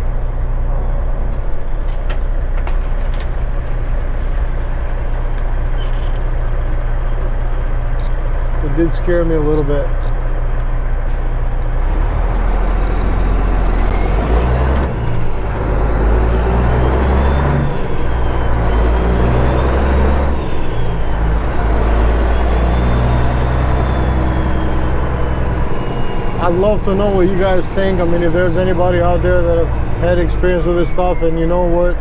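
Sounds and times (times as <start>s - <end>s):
loud diesel engine running: 0.0s - 32.0s.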